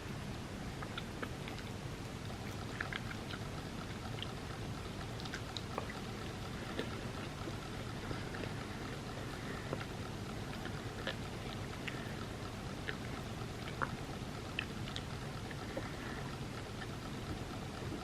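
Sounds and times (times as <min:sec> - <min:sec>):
steady background hiss: 0:00.0 - 0:18.0
wet mouth eating sounds: 0:00.8 - 0:18.0.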